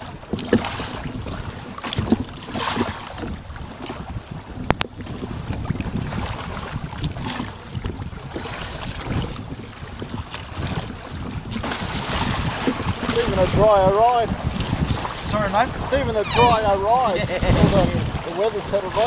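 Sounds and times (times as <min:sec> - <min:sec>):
water rushing along hulls: 0:00.0 - 0:19.0
wind buffeting microphone: 0:00.0 - 0:19.0.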